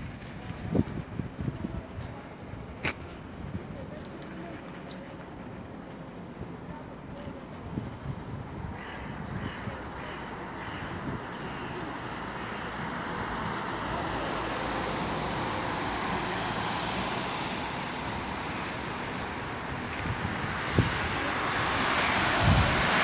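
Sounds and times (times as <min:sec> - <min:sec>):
city street traffic: 0:00.0 - 0:23.0.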